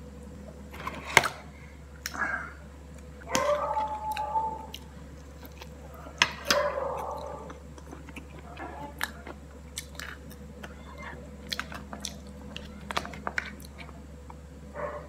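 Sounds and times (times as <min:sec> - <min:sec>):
soft chewing: 0:01.6 - 0:15.0.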